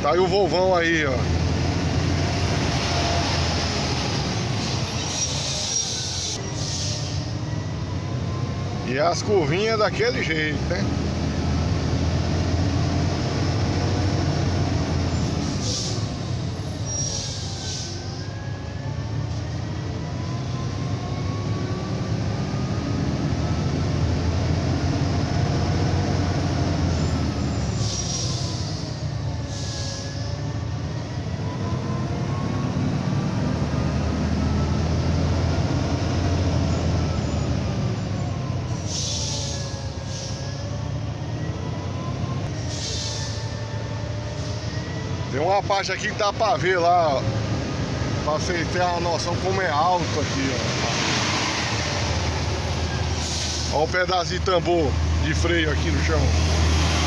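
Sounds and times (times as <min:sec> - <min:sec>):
truck diesel engine droning: 0:00.0 - 0:57.0.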